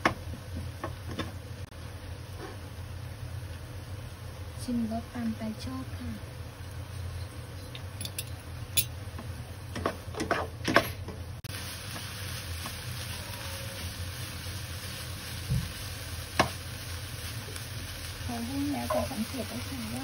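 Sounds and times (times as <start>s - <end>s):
faint sizzle: 0.0s - 10.2s, 11.4s - 20.0s.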